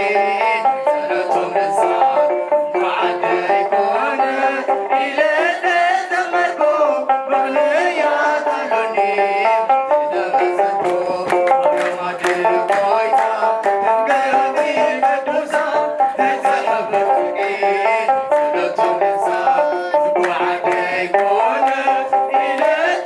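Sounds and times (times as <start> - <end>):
group singing a hymn: 0.0 - 23.0.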